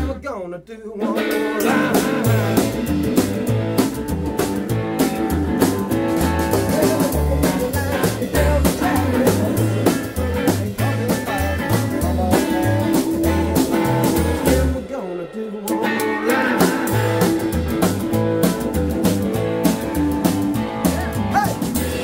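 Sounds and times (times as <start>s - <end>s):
rockabilly band playing live: 0.0s - 22.0s.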